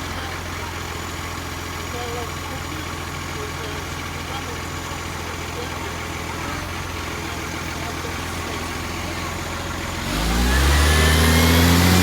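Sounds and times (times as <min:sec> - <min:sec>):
garbage truck diesel engine: 0:00.0 - 0:12.0.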